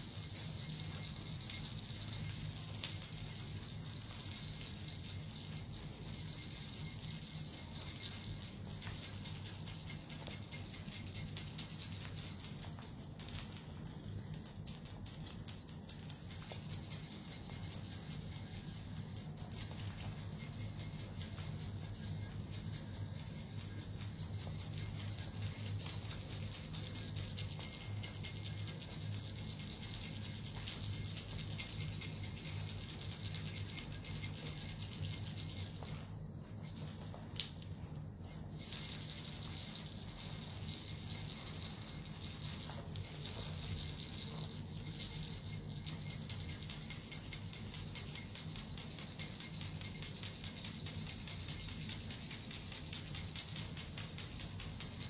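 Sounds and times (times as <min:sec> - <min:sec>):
jingle bells and metal rattle shaken: 0:00.0 - 0:55.0.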